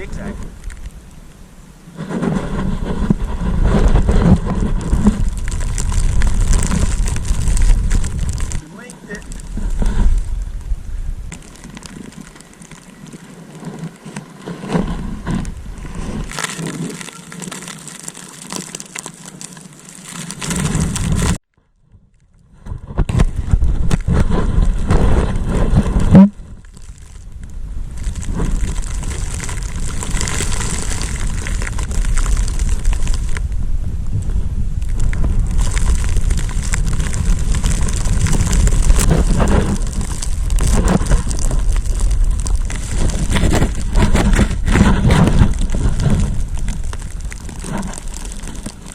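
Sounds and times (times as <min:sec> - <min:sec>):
wind buffeting microphone: 0:00.0 - 0:13.3, 0:22.4 - 0:48.9
snowboard scraping over snow: 0:00.0 - 0:18.0, 0:20.2 - 0:21.4, 0:22.6 - 0:48.9.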